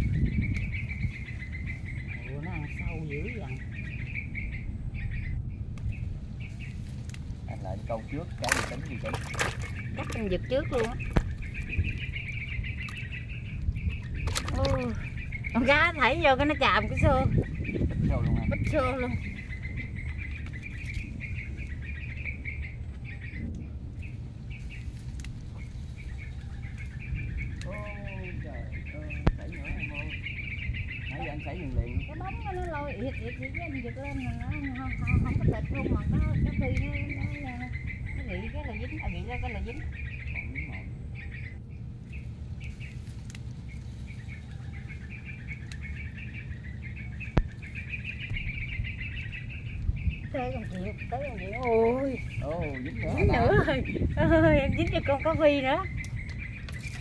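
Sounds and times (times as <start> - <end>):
low steady rumble: 0.0 - 57.0
small birds chirping: 0.0 - 57.0.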